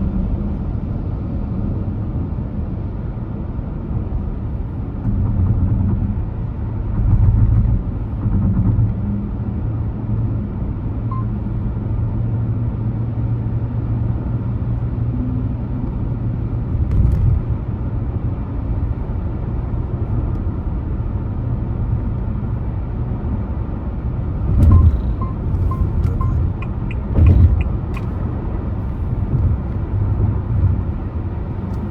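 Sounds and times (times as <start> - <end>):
car engine and road noise: 0.0 - 31.9.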